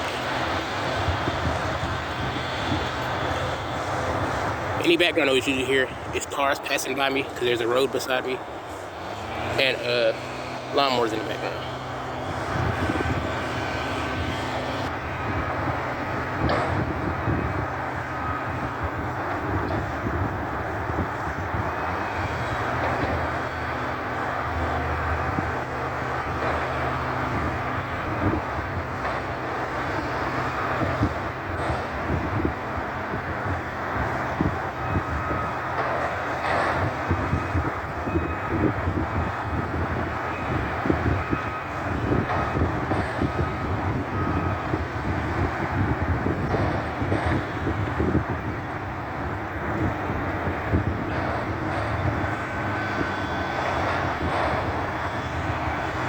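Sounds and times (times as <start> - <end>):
dense mechanical noise: 0.0 - 56.0
garbage truck engine humming: 0.0 - 56.0.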